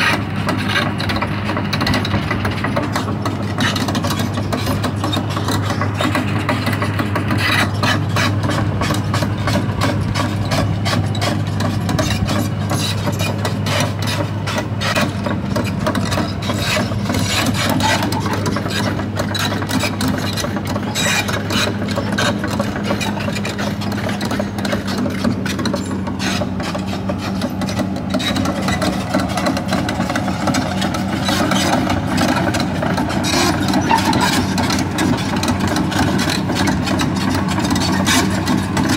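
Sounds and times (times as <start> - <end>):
crawler tracks rattling: 0.0 - 38.9
diesel engine drone: 0.0 - 38.9.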